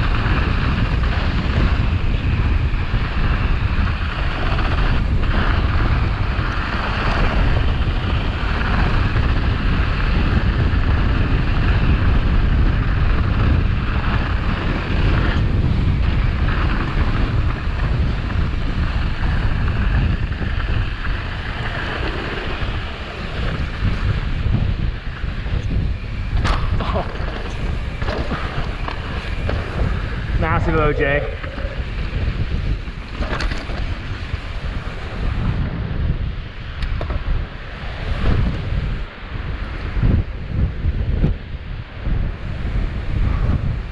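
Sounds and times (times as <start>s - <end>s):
tyres rolling over dirt: 0.0s - 35.6s
wind buffeting microphone: 0.0s - 43.9s.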